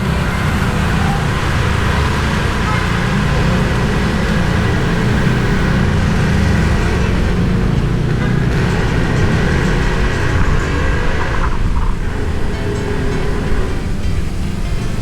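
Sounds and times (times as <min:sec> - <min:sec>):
motorbike engine running: 0:00.0 - 0:15.0
road and wind noise: 0:00.0 - 0:15.0.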